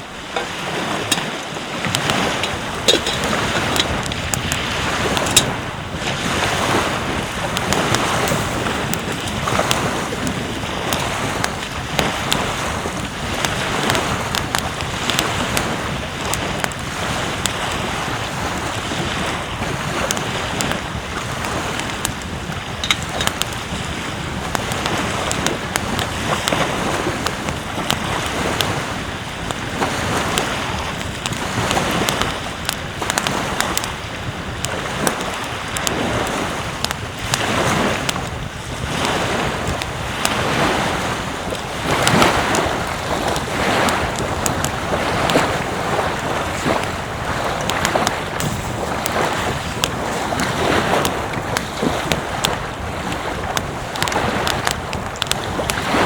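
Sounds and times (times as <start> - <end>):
ocean surf washing onto beach: 0.0 - 56.0
wind buffeting microphone: 0.0 - 56.0.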